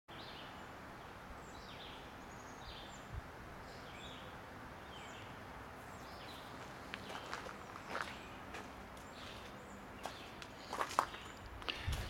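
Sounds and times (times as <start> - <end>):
songbird chirping: 0.1 - 12.0.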